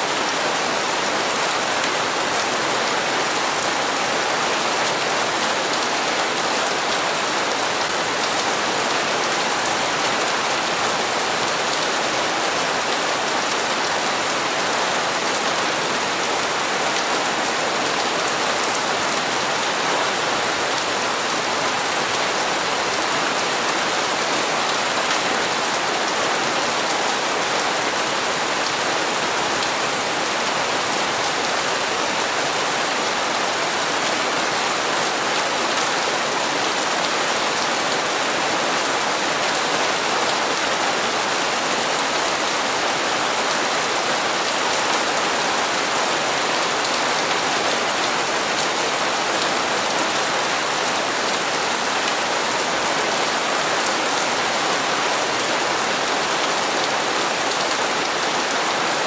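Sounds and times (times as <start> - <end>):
steady rain on hard surfaces: 0.0 - 59.0.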